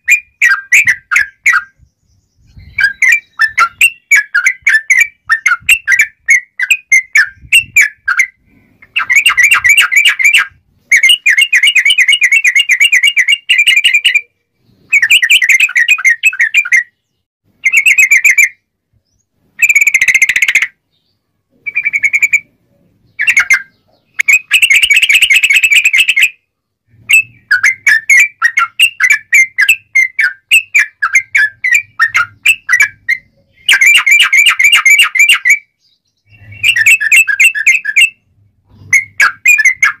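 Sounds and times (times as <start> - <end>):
bulbul singing: 0.0 - 40.0.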